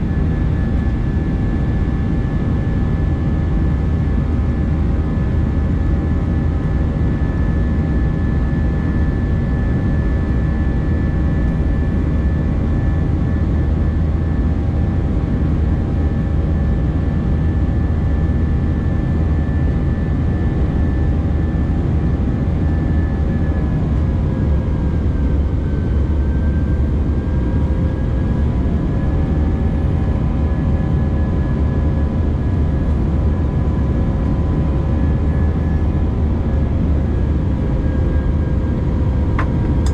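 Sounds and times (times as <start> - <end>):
aircraft cabin engine roar: 0.0 - 39.9
jet engine whine: 0.0 - 39.9.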